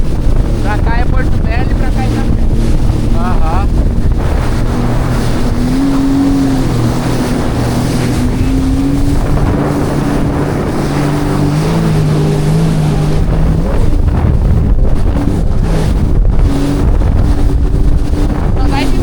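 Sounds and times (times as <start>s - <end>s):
jet ski engine droning: 0.0s - 19.0s
water noise: 0.0s - 19.0s
wind rushing over microphone: 0.0s - 19.0s.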